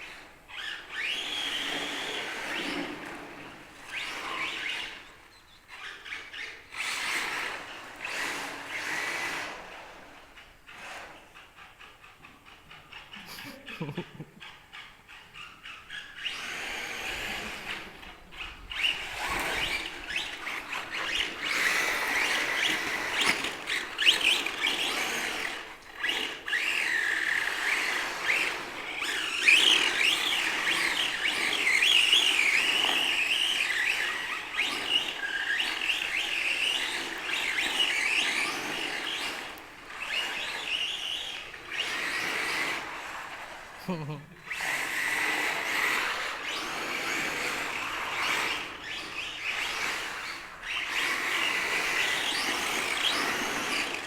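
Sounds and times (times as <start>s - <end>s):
tyres sliding on concrete: 0.0s - 43.8s, 44.4s - 54.0s
electric motors whining: 0.0s - 54.0s.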